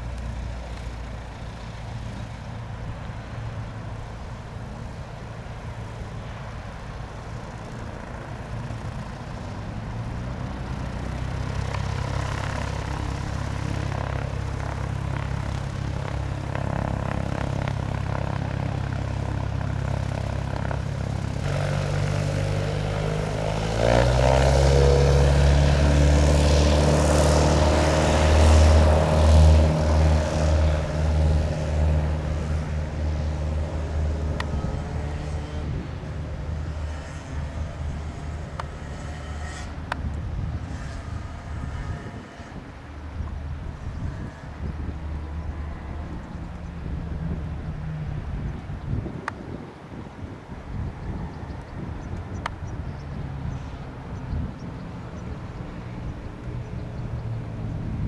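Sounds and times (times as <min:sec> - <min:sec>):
propeller plane engine running: 0:00.0 - 0:58.0.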